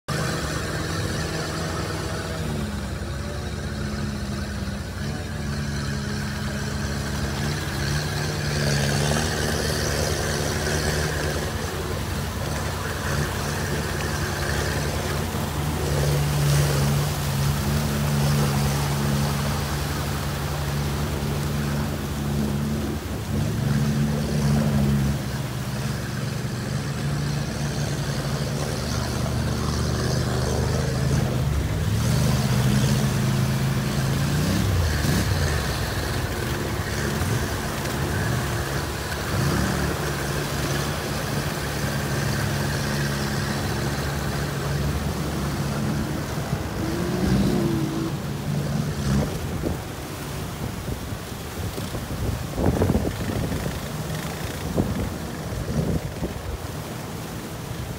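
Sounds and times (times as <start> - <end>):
water splashing and sloshing: 0.0 - 57.9.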